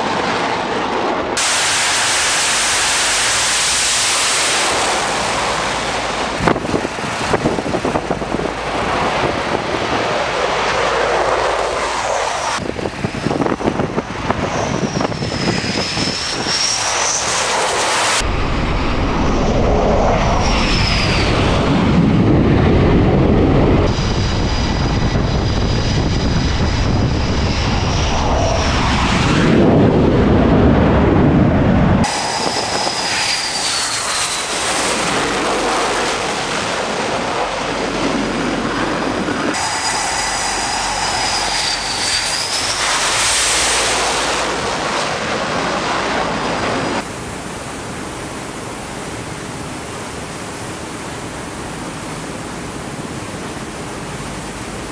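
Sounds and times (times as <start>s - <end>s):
jet engine rumble and whine: 0.0s - 54.9s
wind and sea rushing: 0.0s - 54.9s.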